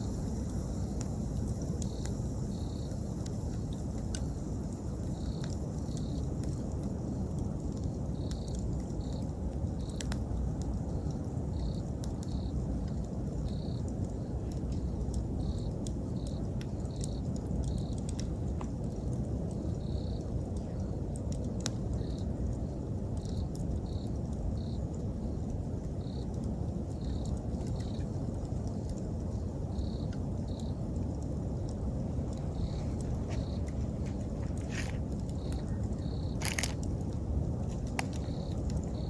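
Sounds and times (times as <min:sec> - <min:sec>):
campfire crackling: 0:00.0 - 0:39.0
insect chirping: 0:00.0 - 0:39.0.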